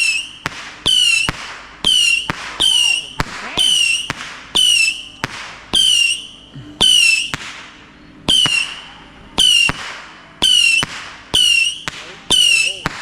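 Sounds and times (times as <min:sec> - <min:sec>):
whistling firework shots: 0:00.0 - 0:13.0.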